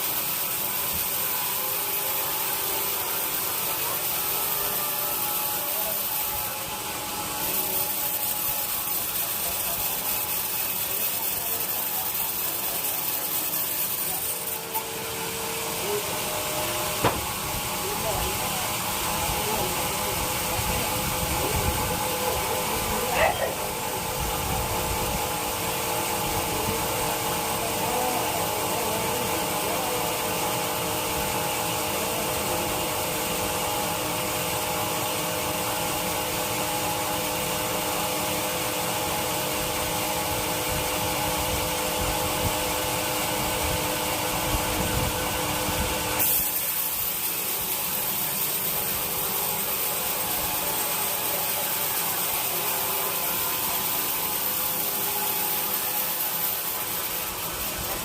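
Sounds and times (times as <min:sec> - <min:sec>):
sawmill saw droning whine: 0:00.0 - 0:58.0.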